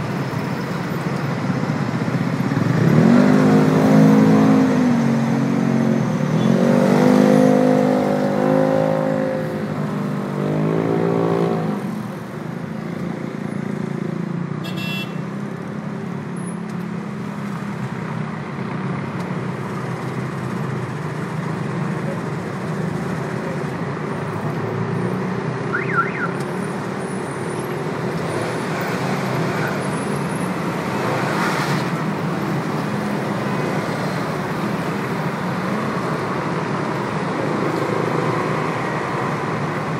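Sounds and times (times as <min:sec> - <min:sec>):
city traffic passing: 0:00.0 - 0:39.9.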